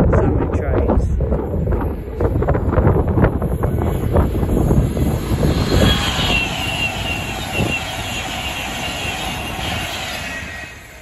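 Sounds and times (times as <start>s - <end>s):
high-speed train passing: 0.1s - 11.0s.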